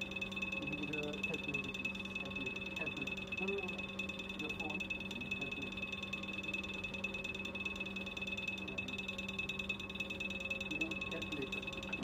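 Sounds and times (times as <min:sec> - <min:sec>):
machine humming with fluttering pulse: 0:00.0 - 0:12.0.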